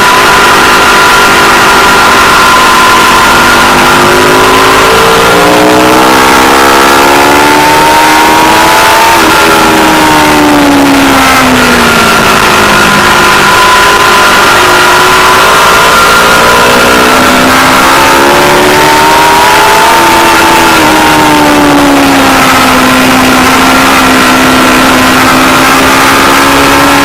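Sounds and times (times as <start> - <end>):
loud rushing wind noise: 0.0 - 27.0
motorcycle engine accelerating: 0.0 - 27.0.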